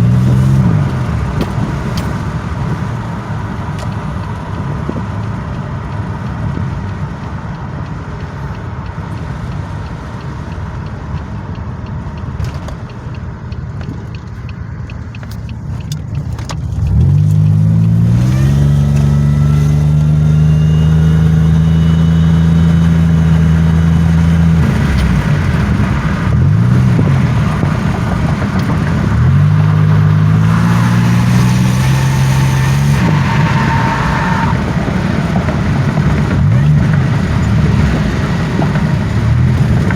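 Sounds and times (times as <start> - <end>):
car engine revving: 0.0 - 39.9
road noise inside car: 0.0 - 39.9.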